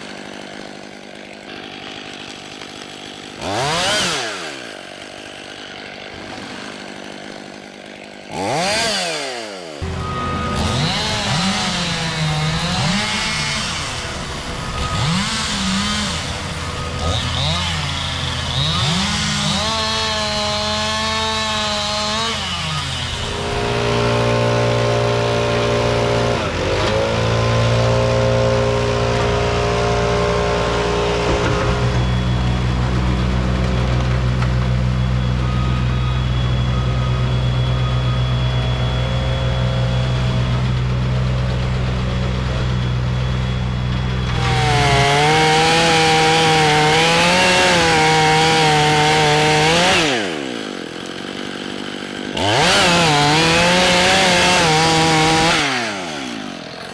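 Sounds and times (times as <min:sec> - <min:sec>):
chainsaw revving: 0:00.0 - 0:56.9
heavy machine engine running: 0:09.8 - 0:22.2, 0:22.8 - 0:56.9.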